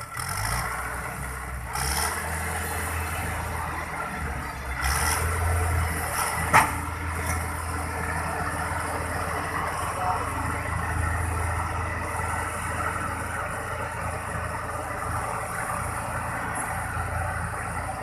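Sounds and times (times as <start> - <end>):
heavy engine running under load: 0.0 - 18.0.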